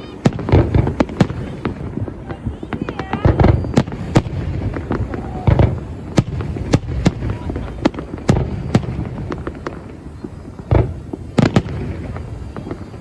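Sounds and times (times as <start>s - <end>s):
firework cracks and pops: 0.0s - 13.0s
heavy firework boom: 0.0s - 13.0s
low rumble of distant fireworks: 0.0s - 13.0s.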